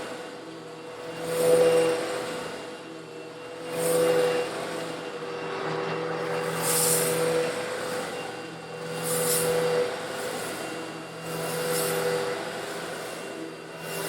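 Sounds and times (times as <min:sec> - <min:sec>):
vacuum cleaner motor hum: 0:00.0 - 0:14.0.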